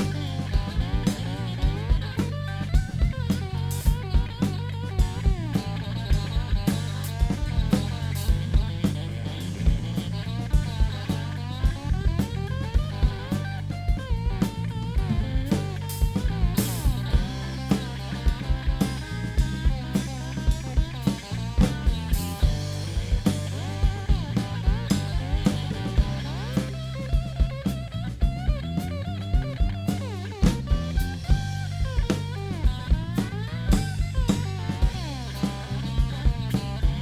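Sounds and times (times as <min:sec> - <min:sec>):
lead guitar bending notes: 0:00.0 - 0:37.0
rock band instrumental: 0:00.0 - 0:37.0.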